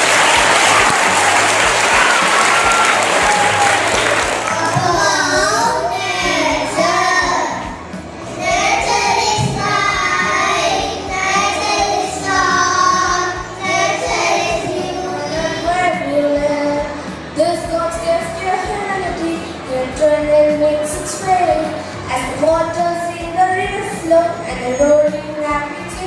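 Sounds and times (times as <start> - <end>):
young voices singing: 0.0 - 26.0.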